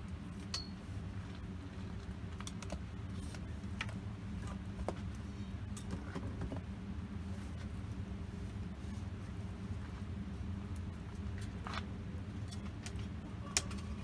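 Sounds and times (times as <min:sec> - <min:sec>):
low rumble of burning: 0:00.0 - 0:14.0.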